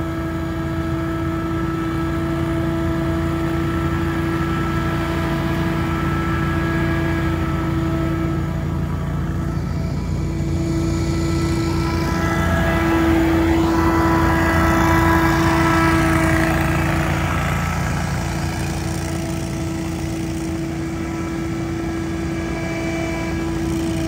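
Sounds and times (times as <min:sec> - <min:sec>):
leaf blower running: 0:00.0 - 0:24.0.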